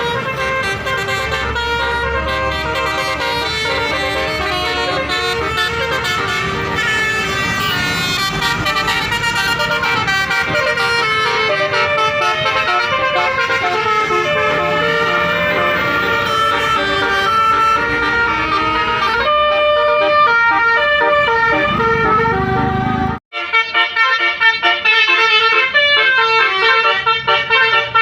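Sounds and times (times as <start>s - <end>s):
bus musical horns playing tune: 0.0s - 28.0s.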